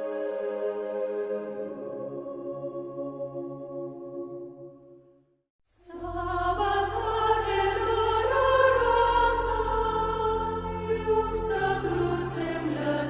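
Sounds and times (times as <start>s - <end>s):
choir singing held notes: 0.0s - 4.8s, 5.9s - 13.0s.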